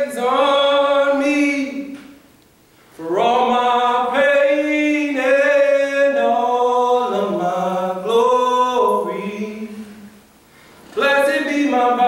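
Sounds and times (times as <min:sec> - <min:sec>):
man singing unaccompanied: 0:00.0 - 0:02.2, 0:03.0 - 0:10.2, 0:10.9 - 0:12.0.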